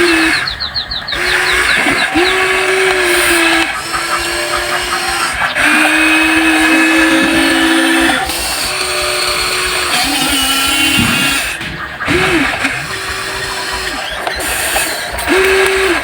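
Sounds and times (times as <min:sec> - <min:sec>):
electric motors whining: 0:00.0 - 0:16.0
high clicks: 0:00.0 - 0:16.0.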